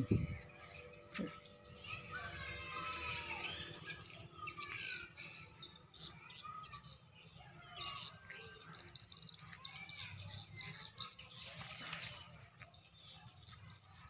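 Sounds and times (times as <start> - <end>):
birds calling and chirping: 0.0 - 14.0.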